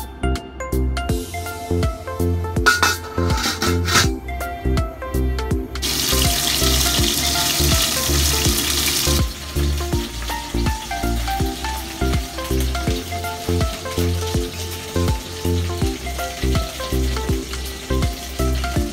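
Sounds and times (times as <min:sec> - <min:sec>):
background music with steady beat: 0:00.0 - 0:18.9.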